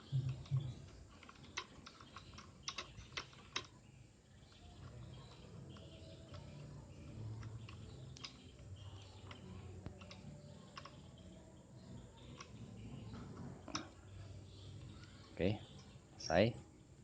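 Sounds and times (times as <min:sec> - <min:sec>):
small metal parts clicking: 0:00.0 - 0:16.0
faint low hum: 0:00.0 - 0:17.0.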